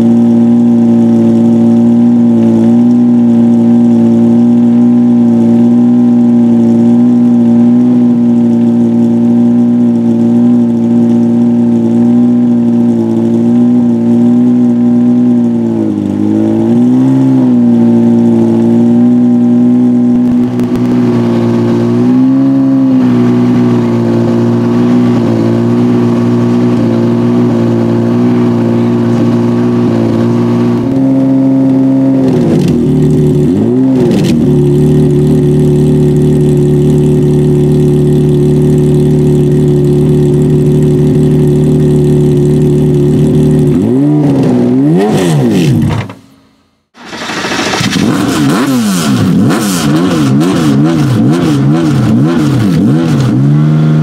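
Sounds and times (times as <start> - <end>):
race car engine idling: 0.0 - 16.8, 17.4 - 22.1, 32.2 - 54.0
engine throttle blips: 0.0 - 54.0.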